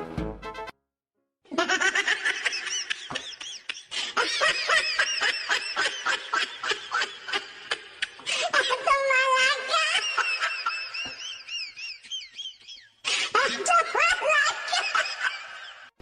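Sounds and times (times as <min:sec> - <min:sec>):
high-pitched laughing: 0:01.5 - 0:15.9.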